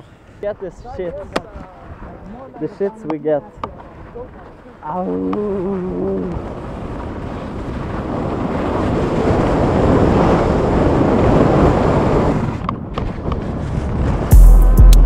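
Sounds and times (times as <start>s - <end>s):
skis sliding over snow: 0.0s - 14.3s
wind buffeting microphone: 0.0s - 14.5s.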